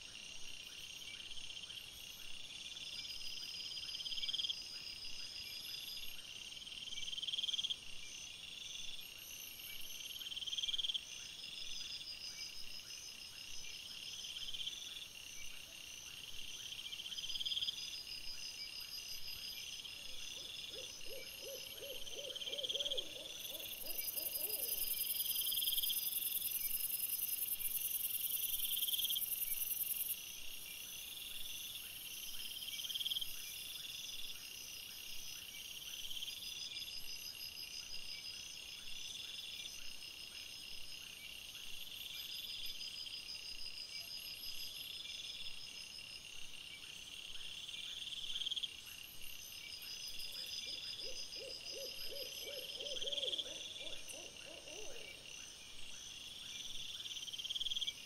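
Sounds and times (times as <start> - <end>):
crickets chirping: 0.0 - 58.0
high insect hiss: 0.2 - 58.0.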